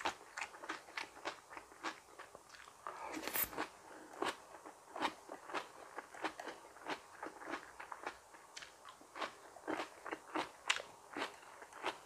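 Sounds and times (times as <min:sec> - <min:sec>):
person chewing crunchy vegetables: 0:00.0 - 0:12.0.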